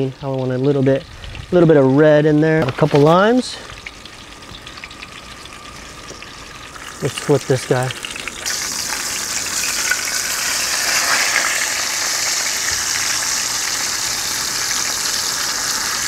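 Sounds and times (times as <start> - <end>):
fish sizzling in hot oil: 2.5 - 16.0.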